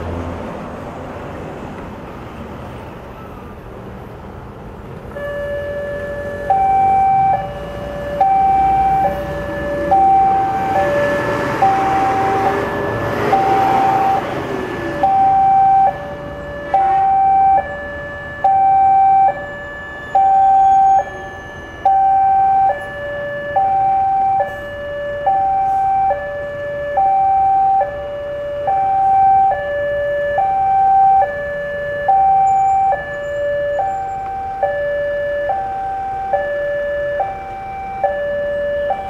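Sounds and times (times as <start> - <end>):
two-tone crossing alarm: 5.1 - 39.0.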